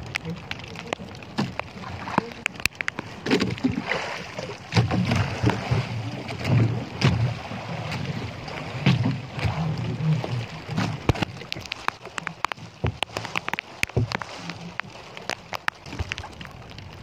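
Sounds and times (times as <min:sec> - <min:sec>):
water splashing against boat: 0:00.0 - 0:17.0.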